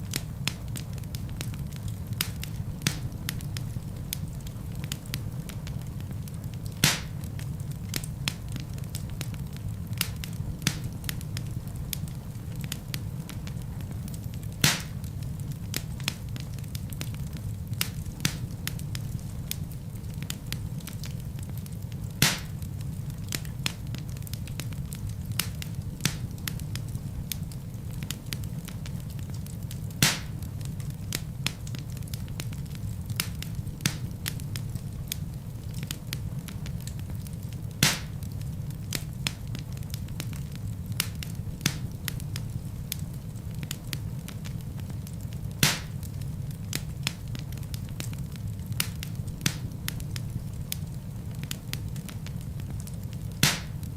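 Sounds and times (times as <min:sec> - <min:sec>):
fine crackling of burning logs: 0:00.0 - 0:53.9
low rumble of flames: 0:00.0 - 0:53.9
sharp pops from fire: 0:00.0 - 0:53.9.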